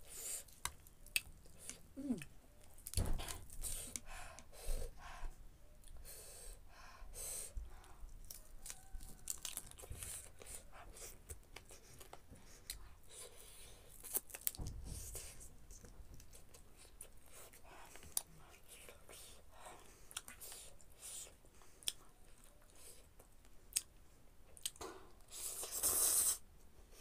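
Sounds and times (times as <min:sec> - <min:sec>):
person chewing: 0:00.0 - 0:04.1, 0:07.8 - 0:14.6, 0:15.2 - 0:26.4.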